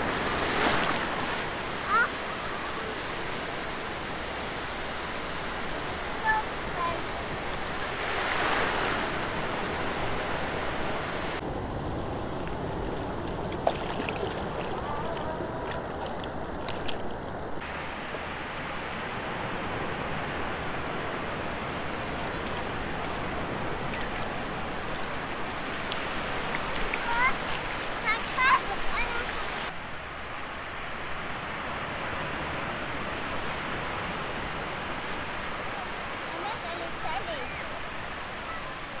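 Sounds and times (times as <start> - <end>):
waves washing over sandy beach: 0.0 - 11.4, 12.6 - 39.0.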